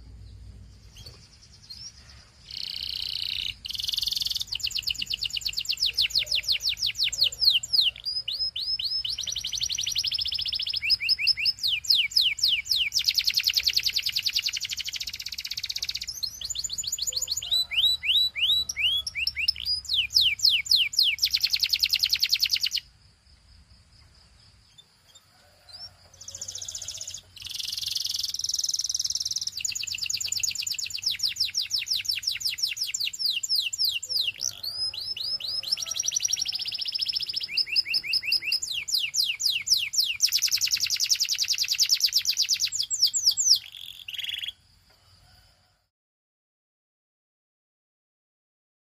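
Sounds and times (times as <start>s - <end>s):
canary singing: 0.0s - 22.9s, 24.6s - 44.6s.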